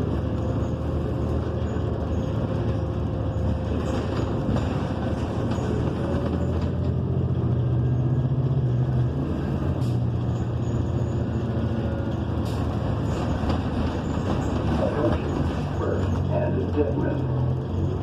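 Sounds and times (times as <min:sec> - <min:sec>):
bus engine drone: 0:00.0 - 0:18.0
road rumble: 0:00.0 - 0:18.0.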